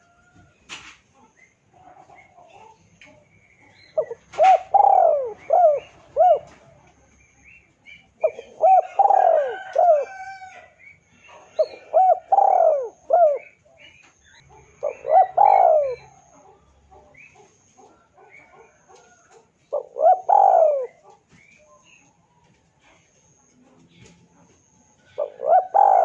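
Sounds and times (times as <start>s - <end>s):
dove cooing: 1.2s - 6.9s, 7.9s - 22.0s, 24.6s - 26.0s.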